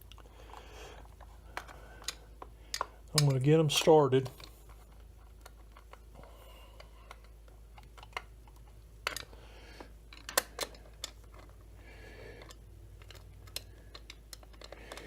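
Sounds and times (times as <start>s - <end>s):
small metal parts clicking: 0.0s - 11.6s, 12.2s - 15.0s.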